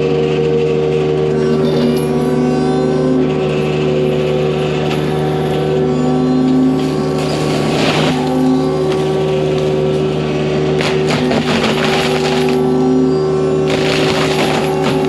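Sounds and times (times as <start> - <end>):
mulcher droning hum: 0.0 - 15.0
mulcher grinding wood: 0.0 - 15.0.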